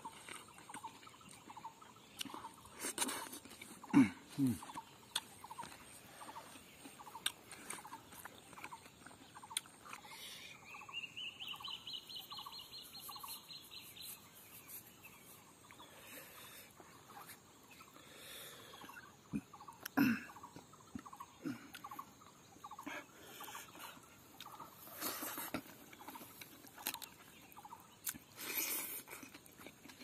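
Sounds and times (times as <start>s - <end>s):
faint bird calls: 0.0s - 30.0s.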